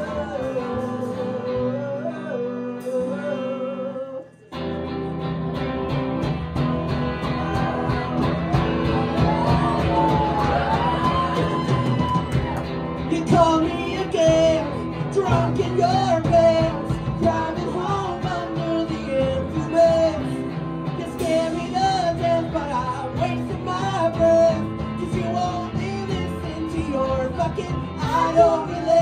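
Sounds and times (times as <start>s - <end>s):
person singing: 0.0s - 5.1s, 7.1s - 29.0s
drums: 0.0s - 29.0s
electric guitar: 0.0s - 29.0s.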